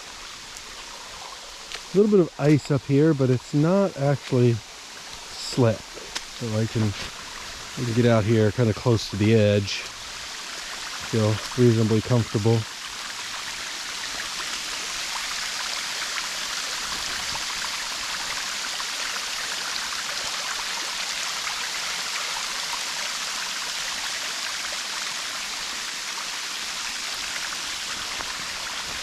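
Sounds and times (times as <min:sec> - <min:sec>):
waterfall rushing: 0:01.9 - 0:23.7, 0:24.4 - 0:29.0.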